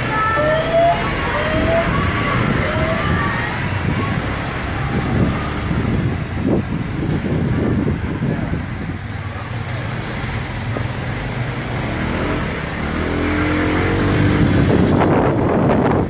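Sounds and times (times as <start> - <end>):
vehicle engines passing: 0.0 - 16.0.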